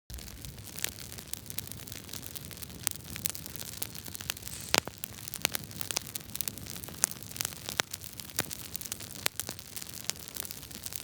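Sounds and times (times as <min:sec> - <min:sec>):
wood fire crackling: 0:00.1 - 0:11.0.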